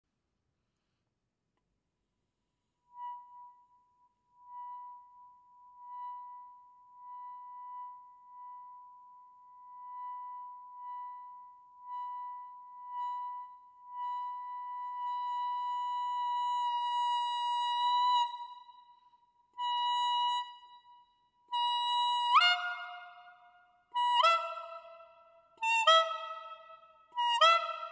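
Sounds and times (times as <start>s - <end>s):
clarinet mouthpiece tone: 2.9s - 27.9s.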